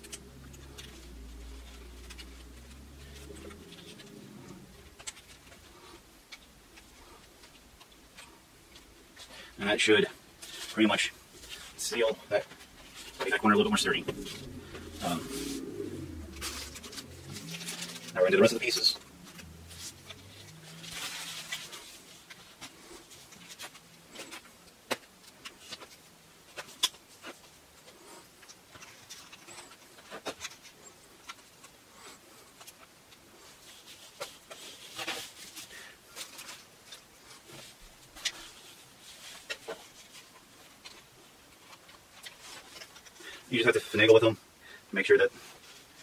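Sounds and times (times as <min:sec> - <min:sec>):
canvas rustling: 0:00.0 - 0:06.1, 0:06.7 - 0:44.1.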